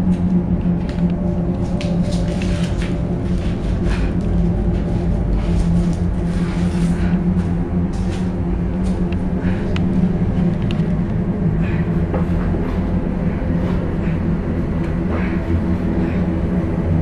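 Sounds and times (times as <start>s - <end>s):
held low tone: 0.0s - 17.0s
low rumbling drone: 0.0s - 17.0s.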